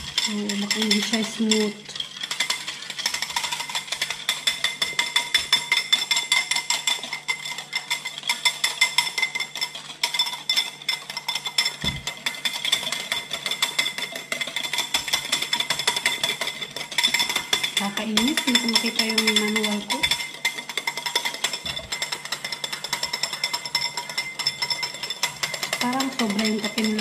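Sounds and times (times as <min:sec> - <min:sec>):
utensil clinking against cup: 0:00.0 - 0:27.0.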